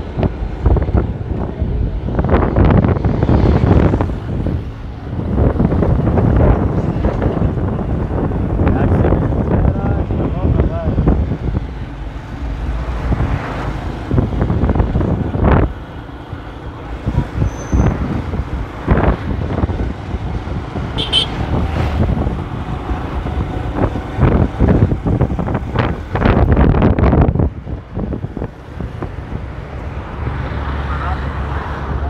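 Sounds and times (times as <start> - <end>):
street traffic noise: 0.0 - 32.0
wind buffeting microphone: 0.0 - 32.0.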